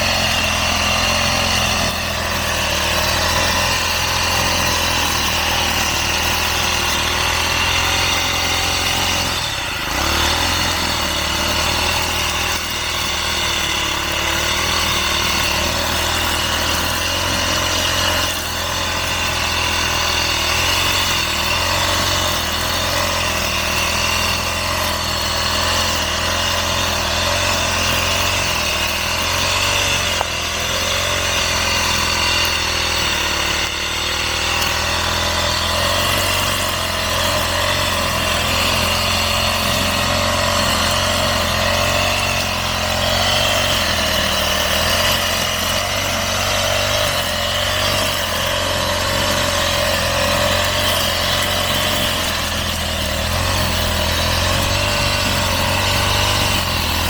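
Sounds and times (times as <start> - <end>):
grass cutter engine running: 0.0 - 57.0.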